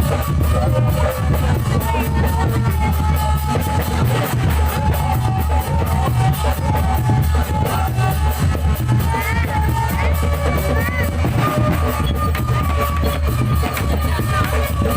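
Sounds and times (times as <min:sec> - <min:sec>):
loud music with fast drums: 0:00.0 - 0:14.9.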